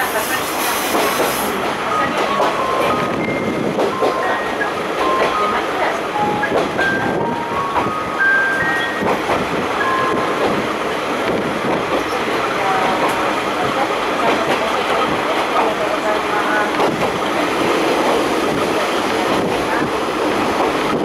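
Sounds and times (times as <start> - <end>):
diesel railcar engine: 0.0 - 21.0.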